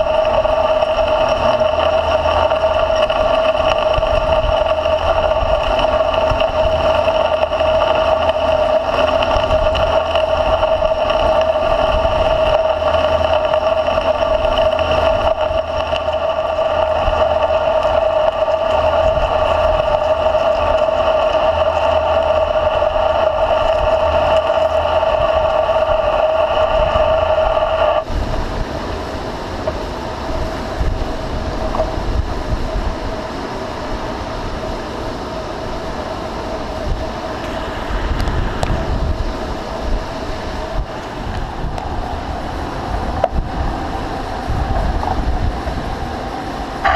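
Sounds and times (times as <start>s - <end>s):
lathe cutting whine: 0.0s - 46.9s
lathe running rumble: 0.0s - 46.9s.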